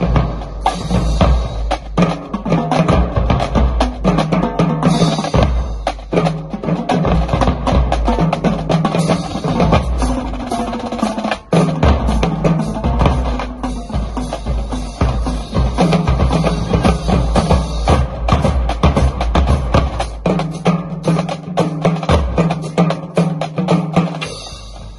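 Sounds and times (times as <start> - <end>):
pitched bass drums: 0.0 - 24.9
snare drum rolls: 0.0 - 24.9
tenor drums: 0.0 - 24.9.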